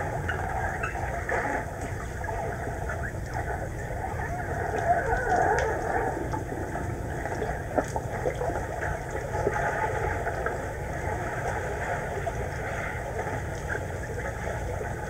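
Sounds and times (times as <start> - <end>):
muffled underwater rumble: 0.0 - 15.0
faint clicks and crackles: 0.1 - 15.0.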